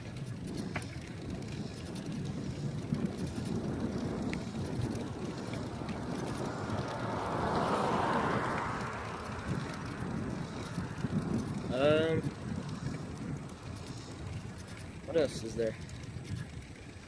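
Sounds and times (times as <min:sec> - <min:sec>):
bicycle rolling and rattling: 0:00.0 - 0:17.0
wind buffeting microphone: 0:00.0 - 0:17.0.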